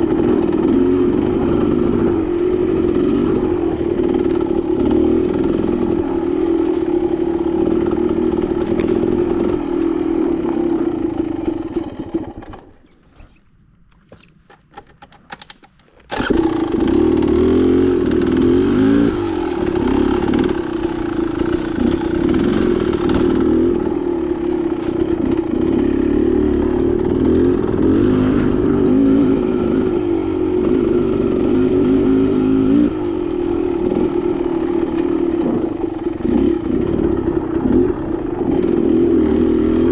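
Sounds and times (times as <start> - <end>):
dirt bike engine running: 0.0 - 12.6, 16.1 - 39.9.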